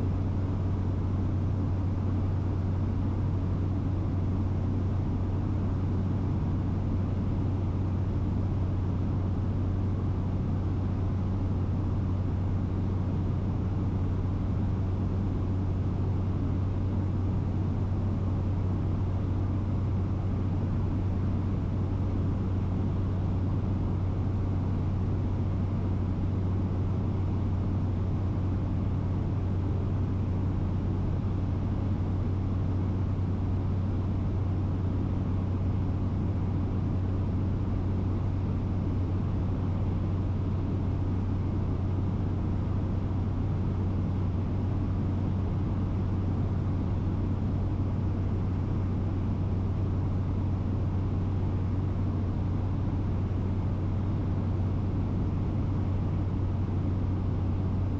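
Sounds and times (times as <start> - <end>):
aircraft engine and propeller hum: 0.0 - 57.9.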